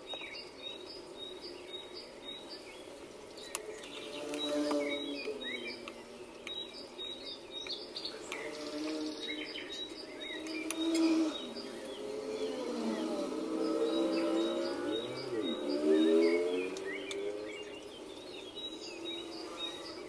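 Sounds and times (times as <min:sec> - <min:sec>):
birds chirping: 0:00.0 - 0:20.0
low hum of held tones: 0:00.0 - 0:20.0.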